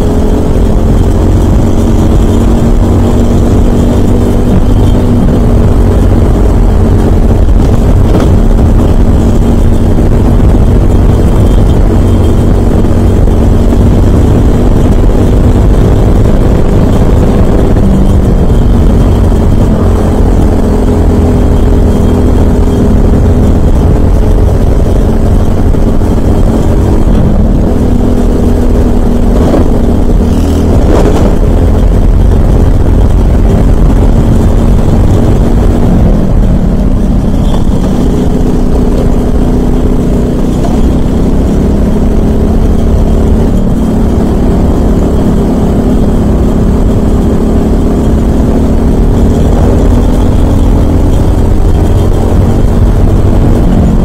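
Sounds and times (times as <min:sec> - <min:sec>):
kart engine revving: 0:00.0 - 0:54.0
wind rumble on microphone: 0:00.0 - 0:54.0.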